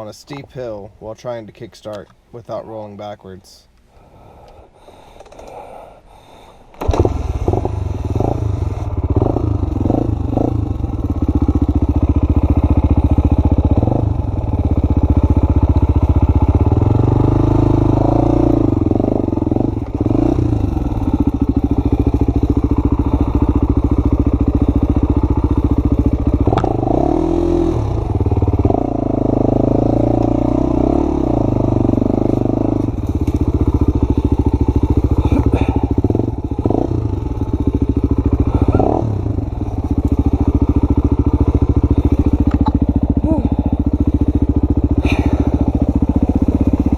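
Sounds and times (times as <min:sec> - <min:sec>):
motorcycle engine revving: 0:06.8 - 0:46.9.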